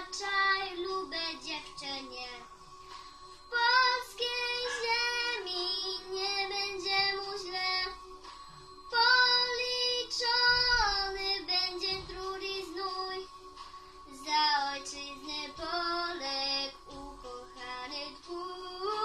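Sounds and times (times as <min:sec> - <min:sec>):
girl singing: 0:00.0 - 0:02.6, 0:03.5 - 0:08.0, 0:08.9 - 0:13.3, 0:14.1 - 0:19.0.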